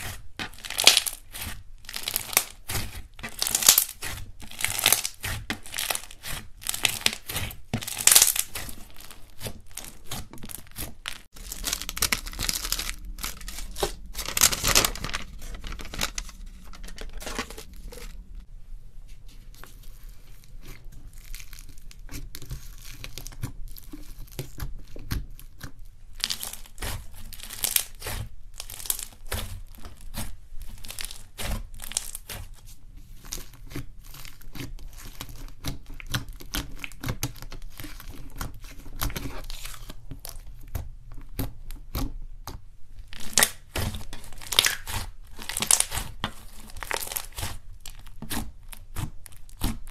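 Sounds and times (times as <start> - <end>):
slime crackling and popping: 0.0 - 18.2, 20.4 - 32.6, 33.2 - 49.9
foam bead slime crunching: 0.0 - 18.4, 19.5 - 42.1, 43.0 - 49.9.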